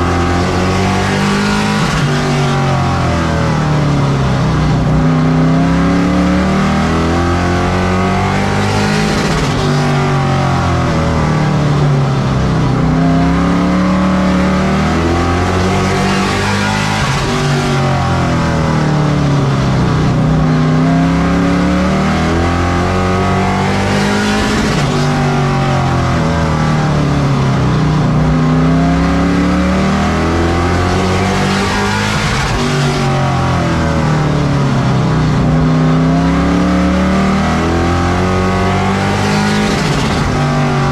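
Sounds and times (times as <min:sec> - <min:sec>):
race truck engine running hard: 0:00.0 - 0:40.9.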